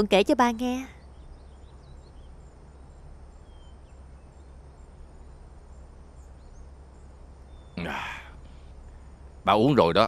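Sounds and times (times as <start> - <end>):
background hiss: 0.0 - 10.0
steady low hum: 0.0 - 10.0.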